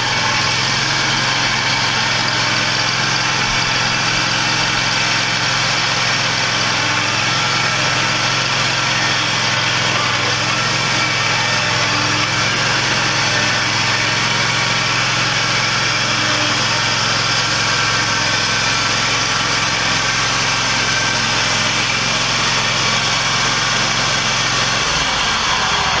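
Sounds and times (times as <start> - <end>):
riding lawn mower engine running: 0.0 - 26.0.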